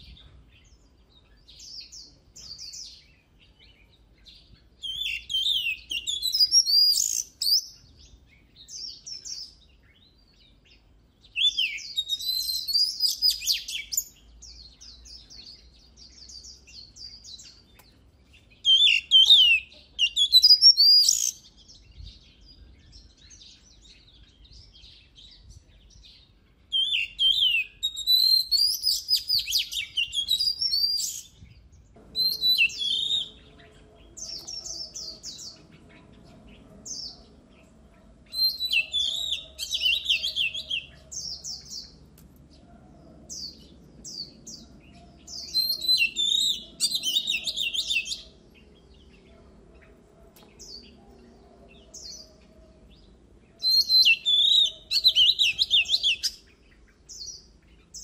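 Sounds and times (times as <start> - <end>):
bird singing whistles and trills: 0.0 - 42.0, 43.4 - 49.2, 50.3 - 58.0.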